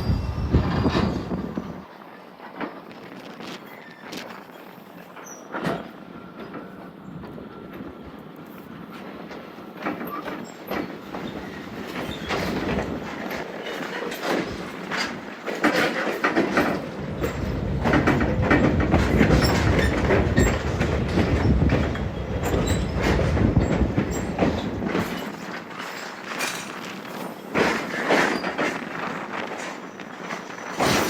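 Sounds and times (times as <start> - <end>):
train wheels clicking over track: 0.0 - 31.0.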